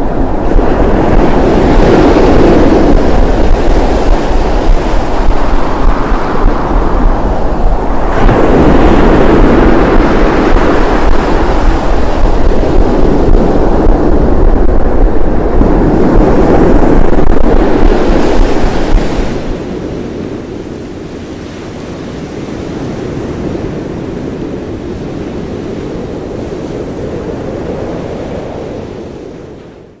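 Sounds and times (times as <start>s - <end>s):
deep wind rumble on microphone: 0.0s - 30.0s
ocean surf surging: 0.0s - 30.0s.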